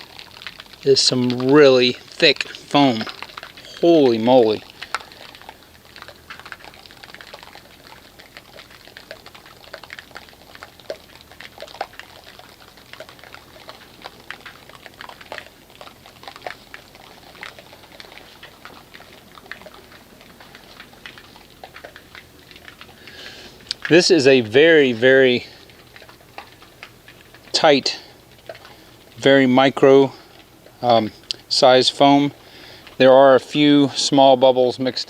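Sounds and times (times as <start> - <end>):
foam bubbles crackling: 0.0 - 35.0.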